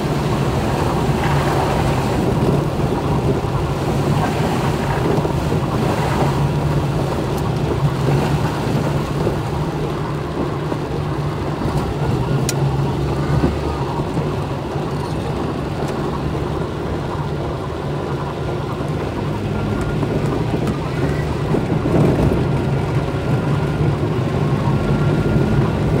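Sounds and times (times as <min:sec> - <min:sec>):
engine and tyre hum: 0:00.0 - 0:26.0
heavy rain on car roof: 0:00.0 - 0:26.0.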